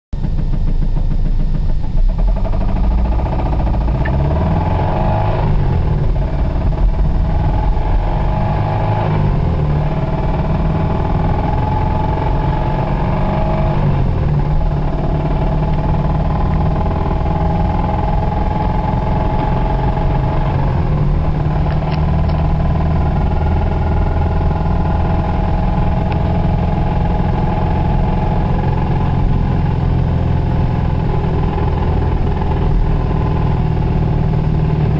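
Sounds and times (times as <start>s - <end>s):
car engine knocking: 0.2s - 34.9s.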